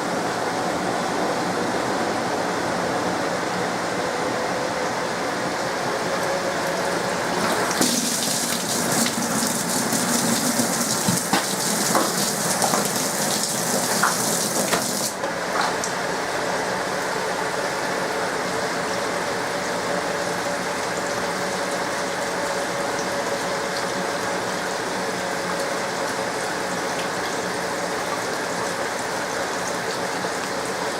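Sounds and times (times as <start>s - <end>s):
washing machine water splashing: 5.5s - 30.9s.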